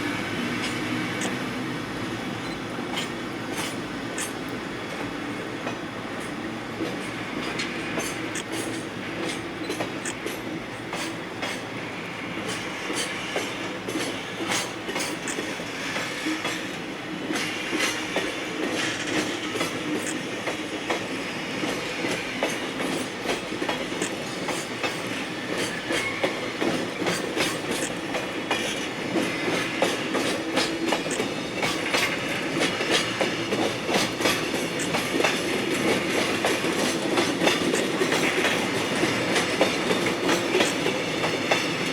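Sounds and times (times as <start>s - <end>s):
train wheels clicking over rail joints: 0.0s - 1.7s, 2.4s - 41.9s.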